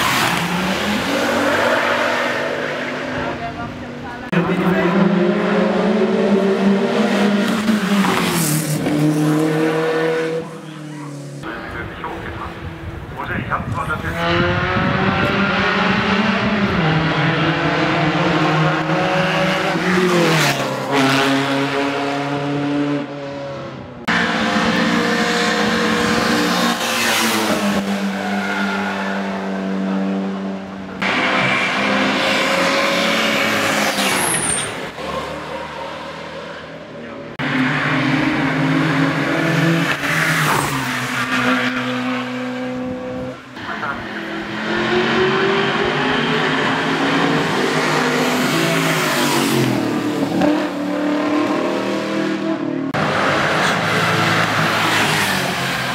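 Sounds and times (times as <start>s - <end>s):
racing car engines revving: 0.0s - 55.9s.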